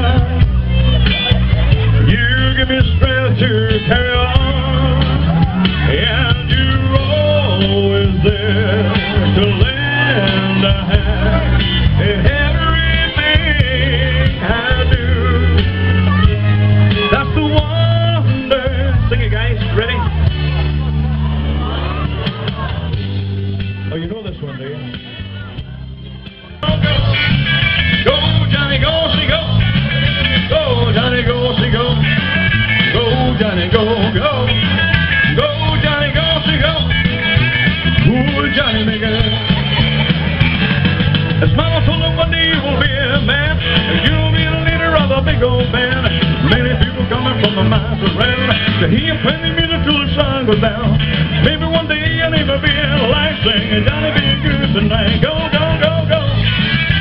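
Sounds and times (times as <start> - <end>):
rock and roll music with singing: 0.0 - 57.0.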